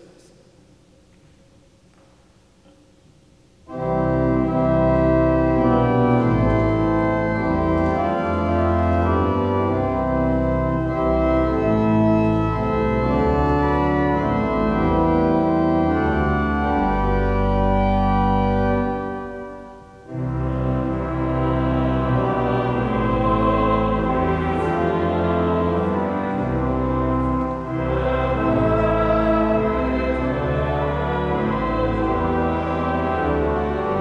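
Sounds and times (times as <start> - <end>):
church organ chords: 3.6 - 34.0.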